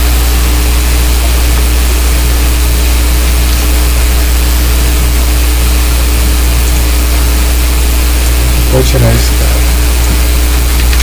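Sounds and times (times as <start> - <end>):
constant hiss: 0.0 - 11.0
low electrical hum: 0.0 - 11.0.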